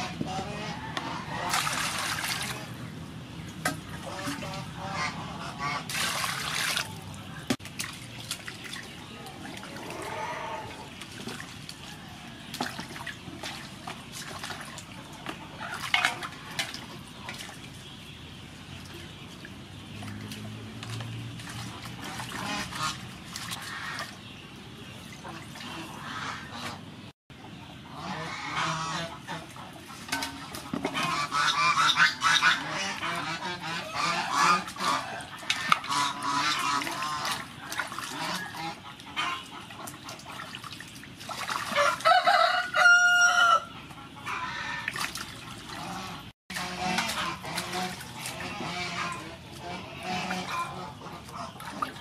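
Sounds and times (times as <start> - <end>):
poultry clucking and calling: 0.0 - 3.0, 3.8 - 5.9, 8.8 - 18.1, 21.5 - 40.6, 41.6 - 52.0
water splashing in metal basin: 1.2 - 26.2, 29.1 - 43.2, 44.4 - 52.0.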